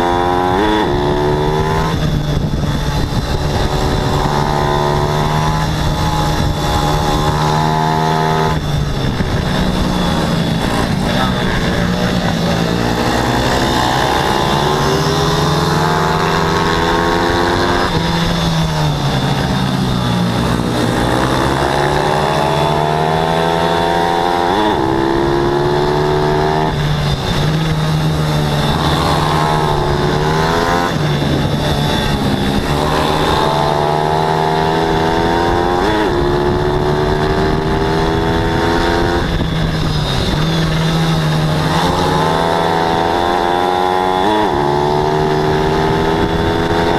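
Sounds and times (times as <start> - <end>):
pit bike engine at full throttle: 0.0 - 46.9.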